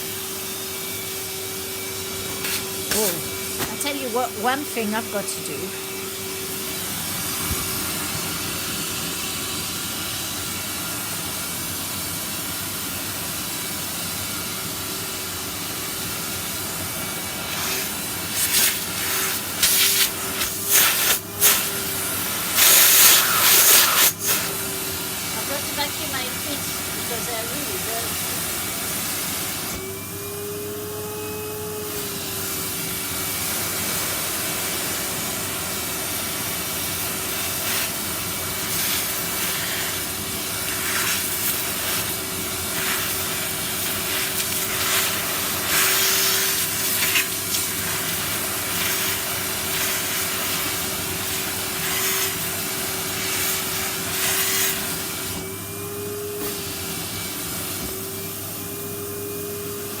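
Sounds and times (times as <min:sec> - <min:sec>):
vacuum cleaner whine: 0:00.0 - 1:00.0.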